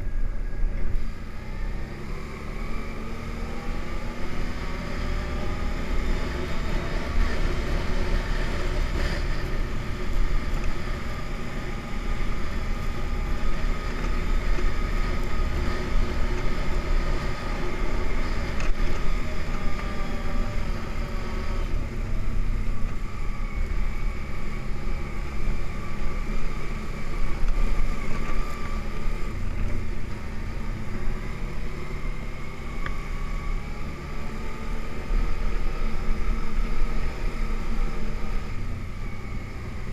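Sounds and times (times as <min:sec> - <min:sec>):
atv engine running: 0:00.0 - 0:39.9
uneven low rumble from riding: 0:00.0 - 0:39.9.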